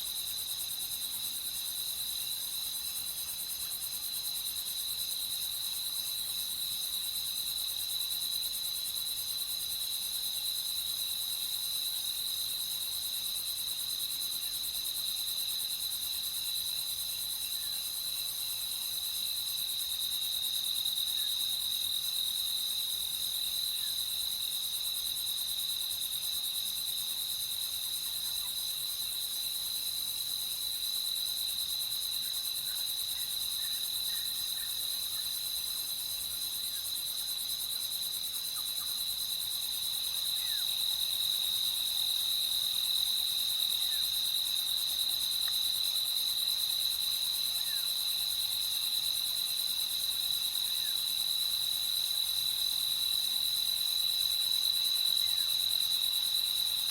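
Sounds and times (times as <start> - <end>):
faint hiss of insects: 0.0 - 56.9.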